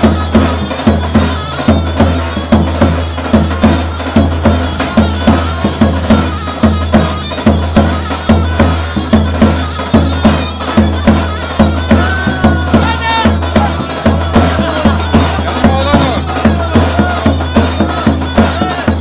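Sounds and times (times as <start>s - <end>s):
bass drum beat: 0.0s - 19.0s
wavering reed pipe melody: 0.0s - 19.0s.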